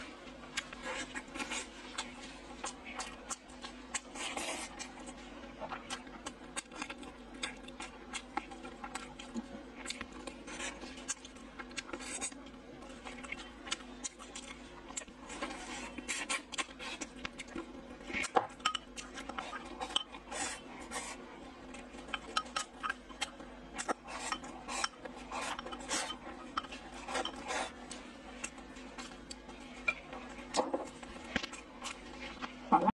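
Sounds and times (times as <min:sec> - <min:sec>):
wet chewing sounds: 0:00.0 - 0:32.7
steady low hum: 0:00.0 - 0:32.9.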